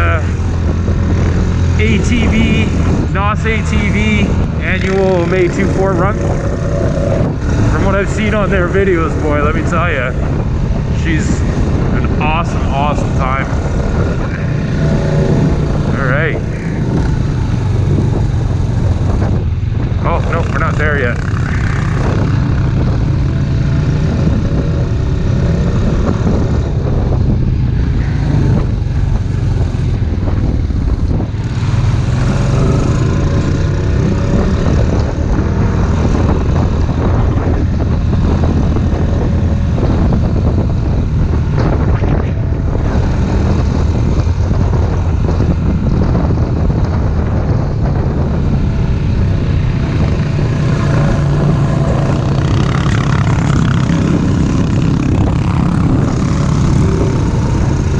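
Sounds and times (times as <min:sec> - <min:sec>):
atv engine running: 0:00.0 - 0:57.9
wind noise: 0:00.0 - 0:57.9.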